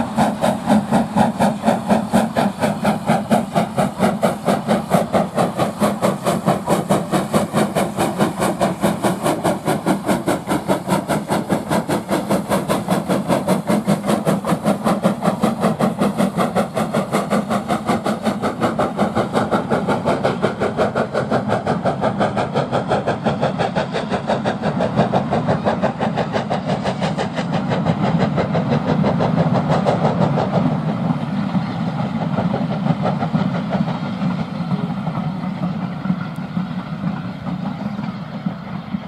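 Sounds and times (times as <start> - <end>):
steam locomotive chuffing: 0.0 - 39.0
train carriages rumbling: 0.0 - 39.0.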